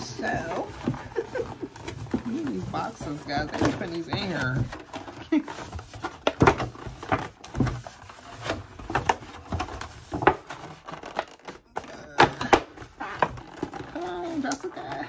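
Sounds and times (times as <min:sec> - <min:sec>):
cardboard boxes knocking: 0:00.0 - 0:15.0.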